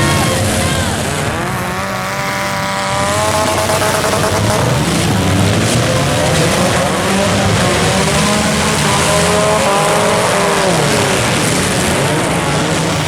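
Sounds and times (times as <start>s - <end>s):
car engines revving: 0.0s - 13.0s
loud mechanical din: 0.0s - 13.0s.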